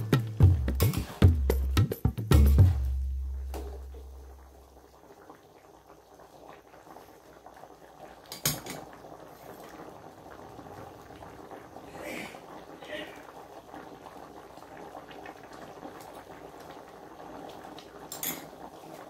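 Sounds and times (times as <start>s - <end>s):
curry simmering in wok: 2.8s - 19.0s.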